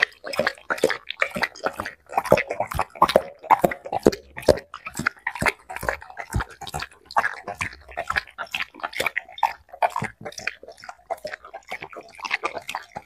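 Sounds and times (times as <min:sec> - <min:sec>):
dog lapping and smacking: 0:00.0 - 0:13.0.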